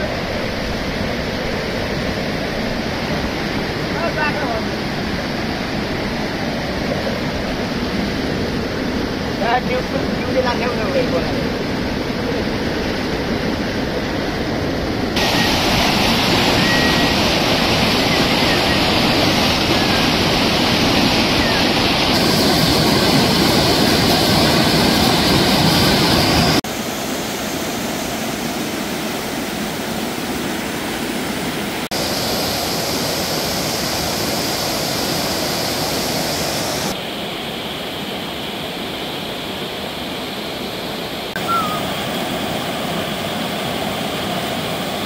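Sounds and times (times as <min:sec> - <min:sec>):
river rapids rushing: 0:00.0 - 0:45.0.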